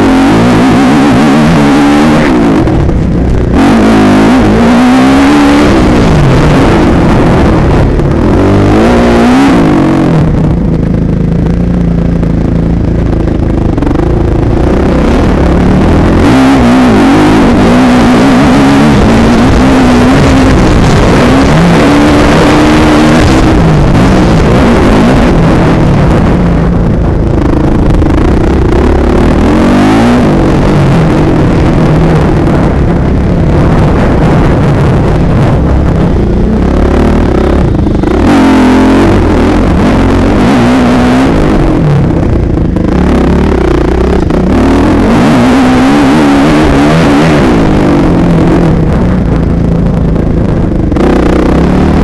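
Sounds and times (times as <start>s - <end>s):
motocross engine revving: 0.0s - 52.0s
wind rushing on microphone: 0.0s - 52.0s.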